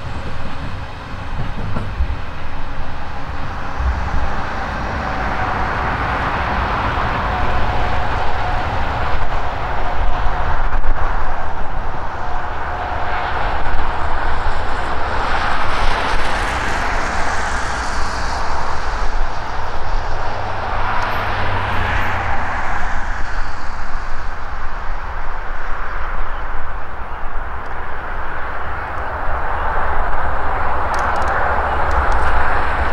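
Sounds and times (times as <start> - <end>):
diesel locomotive running: 0.0 - 32.9
highway traffic passing: 0.0 - 32.9.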